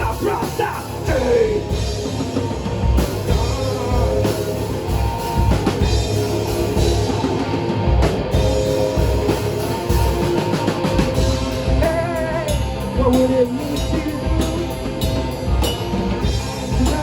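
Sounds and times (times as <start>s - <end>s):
bass guitar: 0.0s - 17.0s
drum kit beat: 0.0s - 17.0s
electric guitar: 0.0s - 17.0s.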